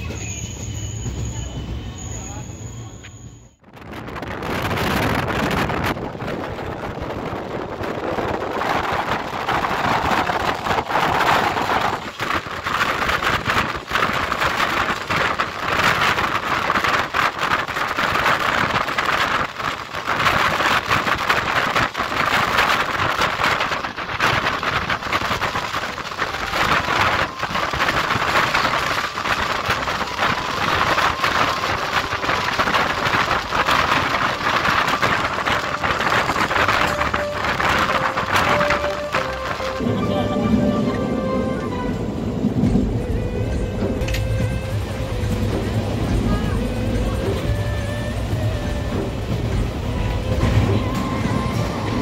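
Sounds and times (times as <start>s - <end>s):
train wheels and rushing air: 3.6s - 52.0s.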